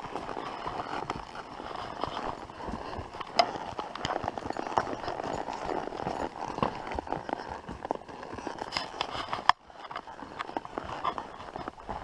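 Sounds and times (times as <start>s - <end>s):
hooves on dirt trail: 0.0s - 12.0s.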